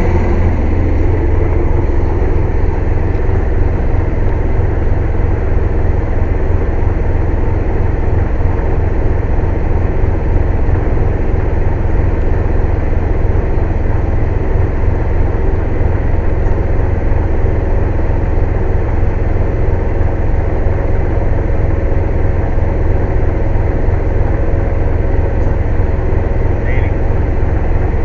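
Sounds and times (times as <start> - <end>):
heavy engine droning: 0.0 - 28.0.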